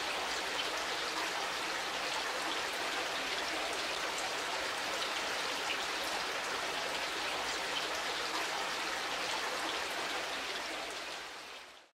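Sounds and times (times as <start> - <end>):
water splashing from fountain: 0.0 - 11.9
waterfall spilling into pool: 0.0 - 11.9.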